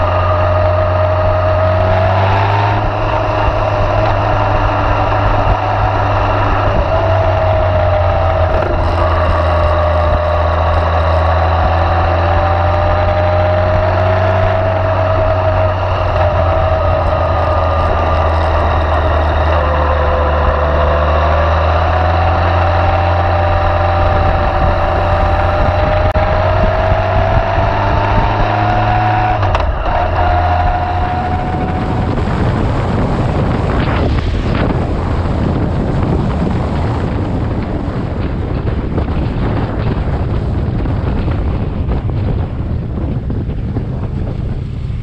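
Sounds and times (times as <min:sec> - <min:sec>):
motorcycle engine running: 0:00.0 - 0:45.0
wind on microphone: 0:00.0 - 0:45.0.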